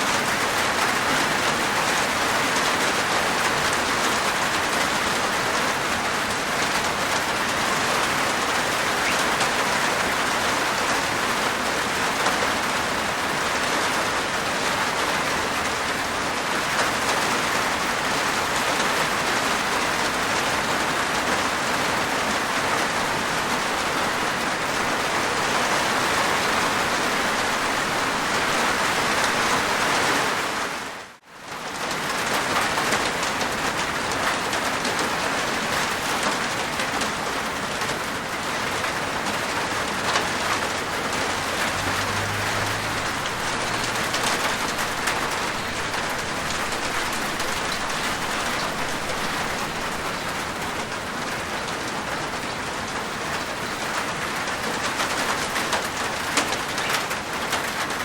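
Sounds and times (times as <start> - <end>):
rain on a rooftop: 0.0 - 58.0.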